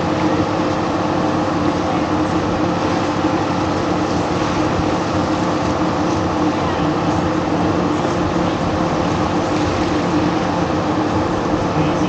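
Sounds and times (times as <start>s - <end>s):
mechanical drone humming: 0.0s - 12.0s.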